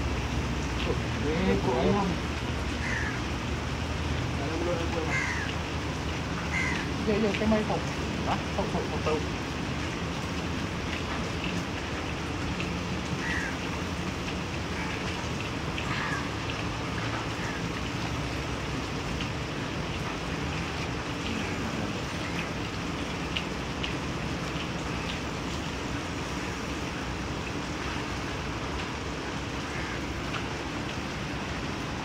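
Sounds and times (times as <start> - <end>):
light rain hissing: 0.0 - 32.0.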